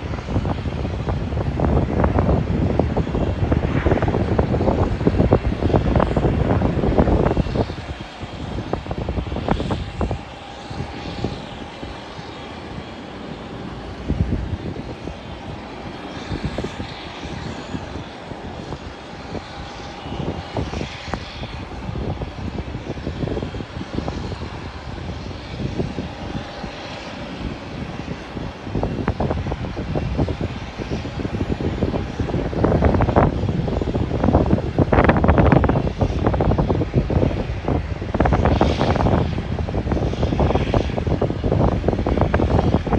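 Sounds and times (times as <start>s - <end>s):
distant jet engines whining: 0.0s - 42.9s
wind buffeting microphone: 0.0s - 42.9s.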